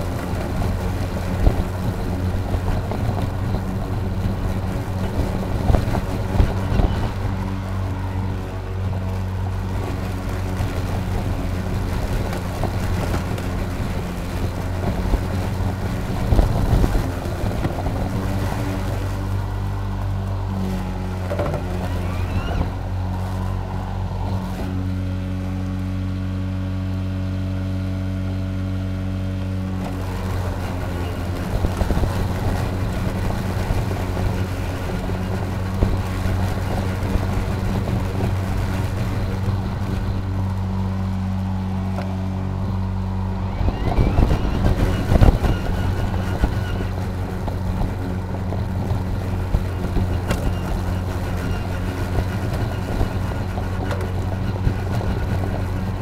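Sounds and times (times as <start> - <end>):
crackling of grass cutting: 0.0 - 56.0
lawn mower motor and blade hum: 0.0 - 56.0.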